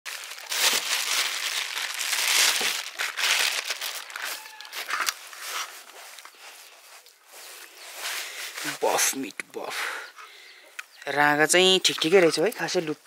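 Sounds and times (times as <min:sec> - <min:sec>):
crinkling and rustling while handled: 0:00.1 - 0:09.4, 0:10.2 - 0:13.0.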